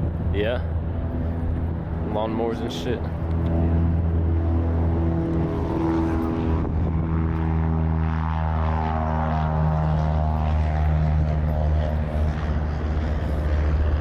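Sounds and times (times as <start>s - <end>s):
propeller airplane engine drone: 0.0s - 14.0s.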